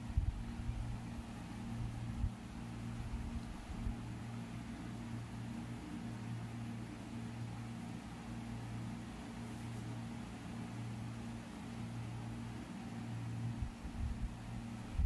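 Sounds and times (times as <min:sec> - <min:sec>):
faint hiss: 0:00.0 - 0:15.0
steady low hum: 0:00.0 - 0:15.0.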